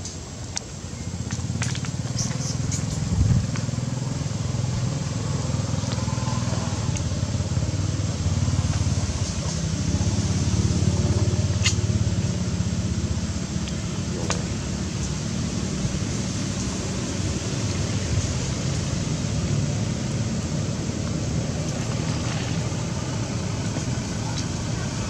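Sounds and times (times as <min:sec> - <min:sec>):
background hiss: 0:00.0 - 0:25.0
low engine rumble: 0:00.0 - 0:25.0.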